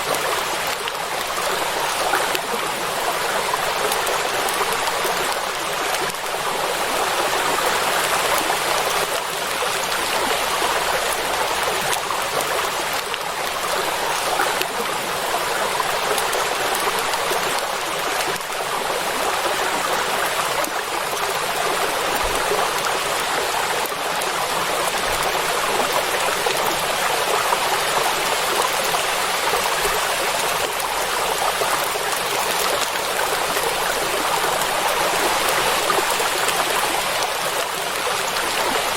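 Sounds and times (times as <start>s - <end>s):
heavy rain on water: 0.0s - 38.9s.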